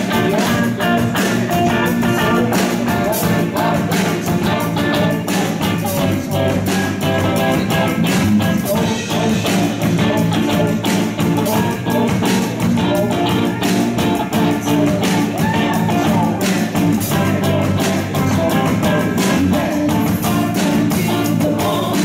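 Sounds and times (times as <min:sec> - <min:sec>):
bass guitar: 0:00.0 - 0:22.0
drum kit: 0:00.0 - 0:22.0
electric guitars: 0:00.0 - 0:22.0
person singing: 0:00.0 - 0:22.0.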